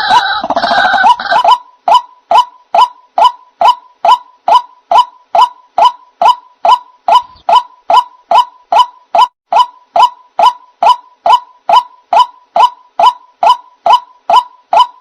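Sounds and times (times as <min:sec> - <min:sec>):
waterhen call: 0:00.0 - 0:15.0.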